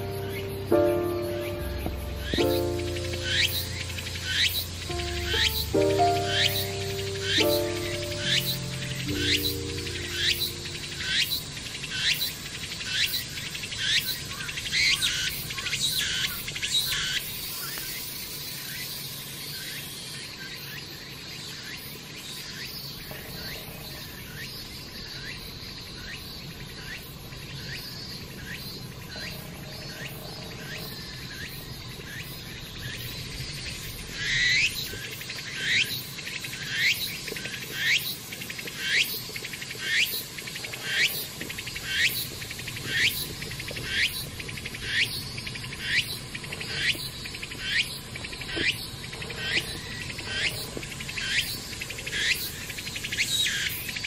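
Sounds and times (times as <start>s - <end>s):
cicada rising calls: 0.0s - 19.9s, 26.8s - 54.0s
high insect hiss: 0.0s - 54.0s.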